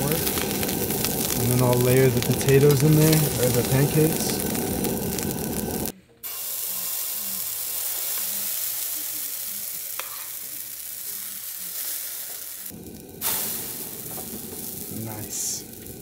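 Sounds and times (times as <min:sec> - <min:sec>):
food frying in pans: 0:00.0 - 0:16.0.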